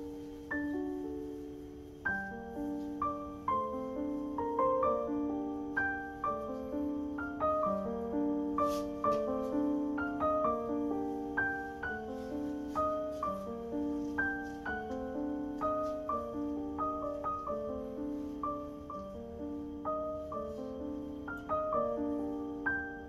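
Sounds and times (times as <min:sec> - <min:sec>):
slow gentle solo piano: 0:00.0 - 0:23.0.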